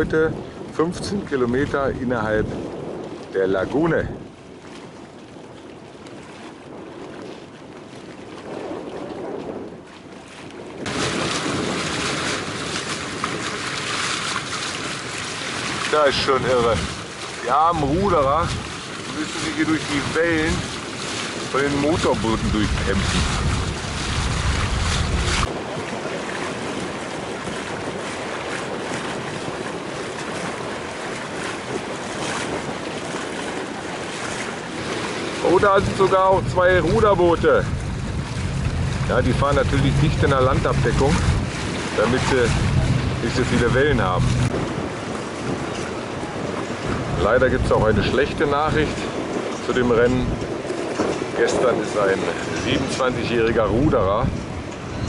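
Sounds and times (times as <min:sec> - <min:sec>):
waves on choppy sea: 0:00.0 - 0:55.0
wind and water rushing past boat: 0:00.0 - 0:55.0.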